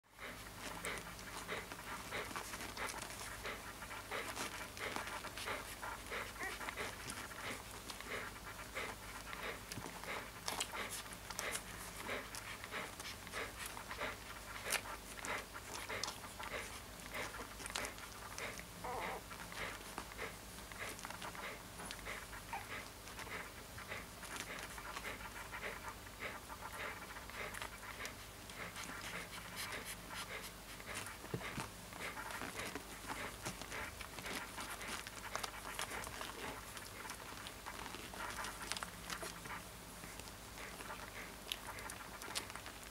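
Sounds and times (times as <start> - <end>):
puppy breathing fast: 0.1 - 42.9.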